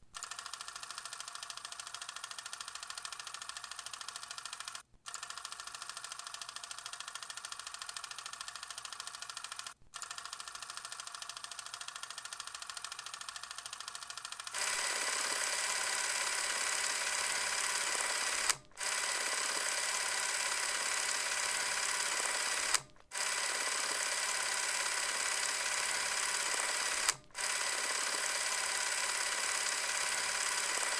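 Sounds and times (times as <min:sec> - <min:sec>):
toy motor click: 0:00.1 - 0:30.9
toy motor whirring: 0:00.2 - 0:30.9.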